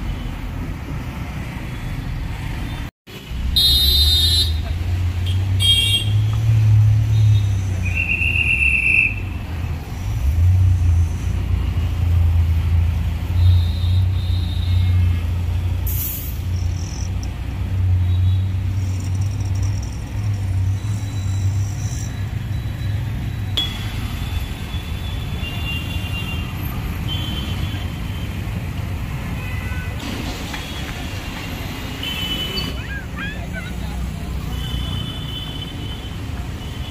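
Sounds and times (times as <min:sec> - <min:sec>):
traffic rumble: 0:00.0 - 0:36.9.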